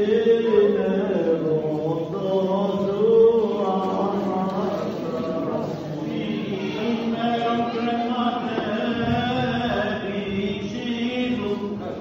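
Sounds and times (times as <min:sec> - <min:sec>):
voices singing chant: 0:00.0 - 0:12.0.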